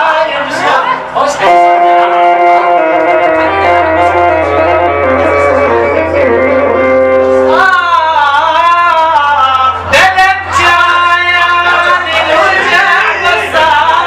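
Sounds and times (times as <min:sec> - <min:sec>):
instrumental accompaniment: 0:00.0 - 0:14.0
man singing wavering notes: 0:00.0 - 0:14.0.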